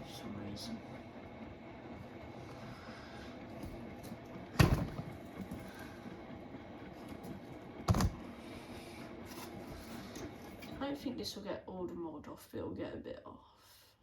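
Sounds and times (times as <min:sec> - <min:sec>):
washing machine running: 0:00.0 - 0:12.2.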